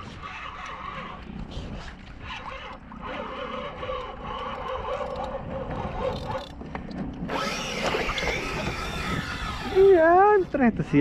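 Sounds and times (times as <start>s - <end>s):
outboard motor rumbling: 0.0s - 11.0s.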